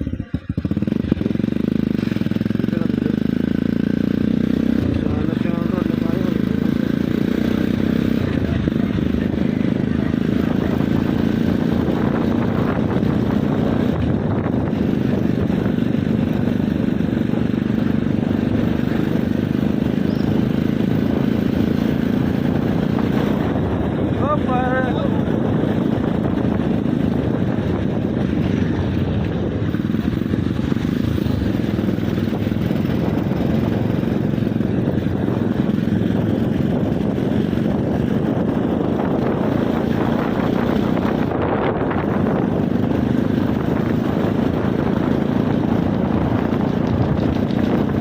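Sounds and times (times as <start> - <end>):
motorcycle engine humming: 0.0 - 48.0.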